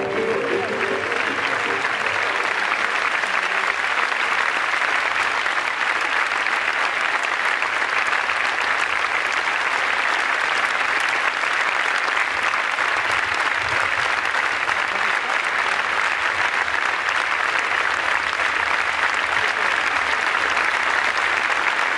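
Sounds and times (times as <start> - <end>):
crowd applauding: 0.0 - 21.9.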